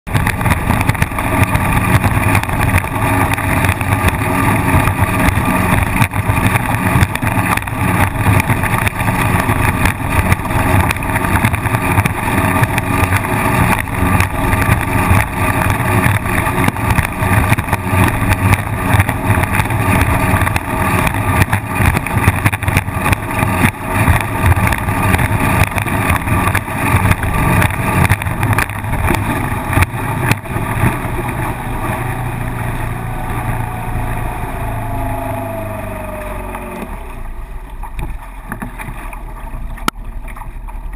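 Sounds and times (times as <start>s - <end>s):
outboard motor droning: 0.1s - 40.9s.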